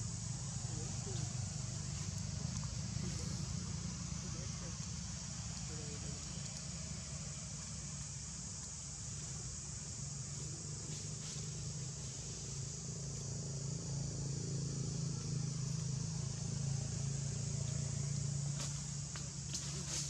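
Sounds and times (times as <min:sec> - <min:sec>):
high insect buzz: 0:00.0 - 0:20.0
low engine-like hum: 0:00.0 - 0:20.0.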